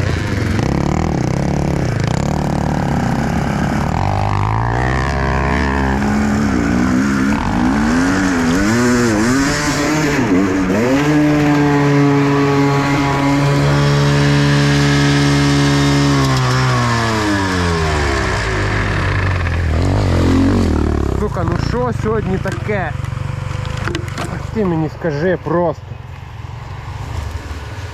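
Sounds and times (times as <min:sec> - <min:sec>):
dirt bike engine revving: 0:00.0 - 0:25.8.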